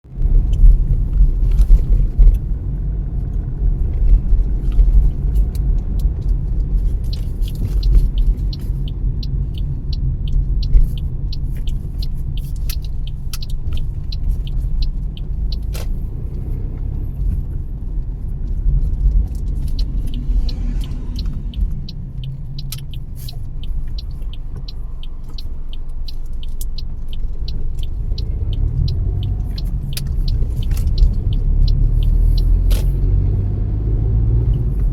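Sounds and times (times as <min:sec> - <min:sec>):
car road and engine rumble: 0:00.0 - 0:34.9
light rapid ticks: 0:00.4 - 0:16.4, 0:17.3 - 0:33.2.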